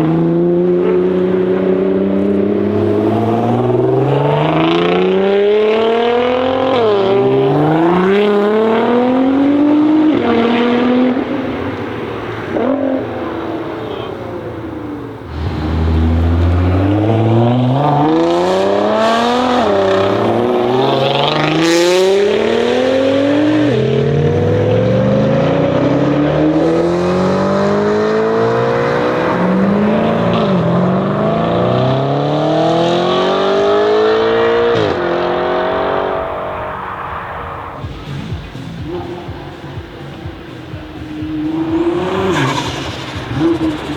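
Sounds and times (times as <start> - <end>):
car engine accelerating through gears: 0.0 - 43.9.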